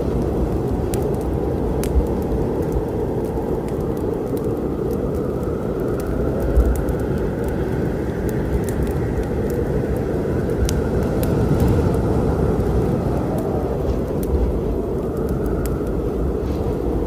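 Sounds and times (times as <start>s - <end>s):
low storm rumble: 0.0s - 17.0s
wood fire crackling and popping: 0.0s - 17.0s.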